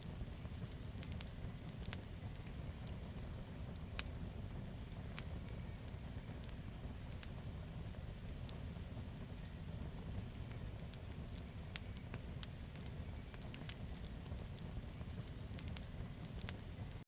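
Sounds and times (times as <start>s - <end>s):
campfire flame rumble: 0.0s - 17.0s
wood crackling and popping: 0.0s - 17.0s.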